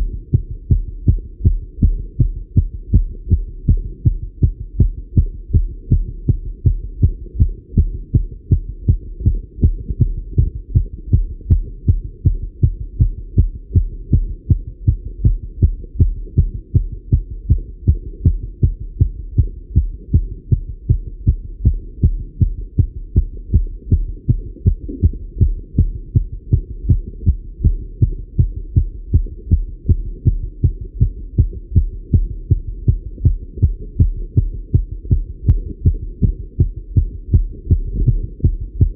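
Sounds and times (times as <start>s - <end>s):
heart beating fast: 0.0s - 38.9s.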